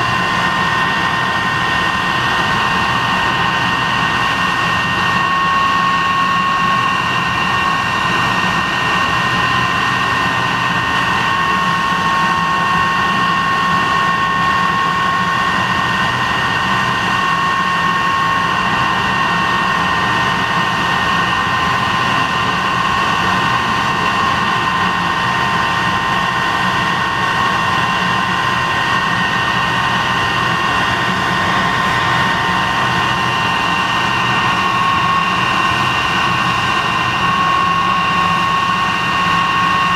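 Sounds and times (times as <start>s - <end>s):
high steady whining tones: 0.0s - 39.9s
jet engine running: 0.0s - 39.9s.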